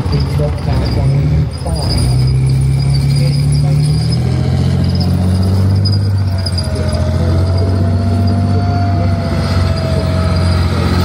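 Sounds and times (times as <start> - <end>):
tank diesel engine drone: 0.0 - 11.0
thin engine whine: 0.0 - 11.0.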